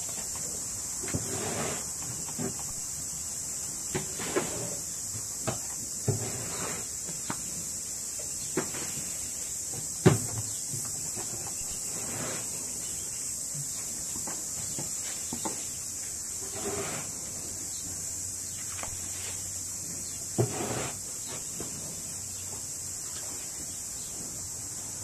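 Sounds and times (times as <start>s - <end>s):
steady high hiss: 0.0s - 25.0s.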